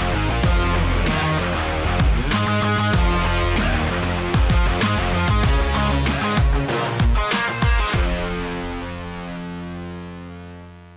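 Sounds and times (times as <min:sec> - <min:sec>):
rock music with guitar and drums: 0:00.0 - 0:10.4.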